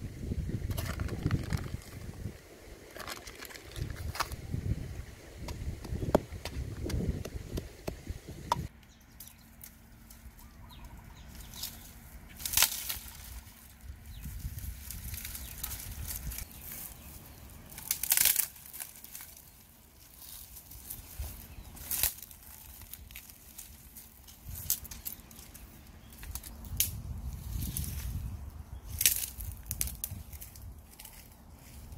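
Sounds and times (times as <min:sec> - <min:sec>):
rustling through dry leaves: 0:00.2 - 0:08.5, 0:09.2 - 0:31.9.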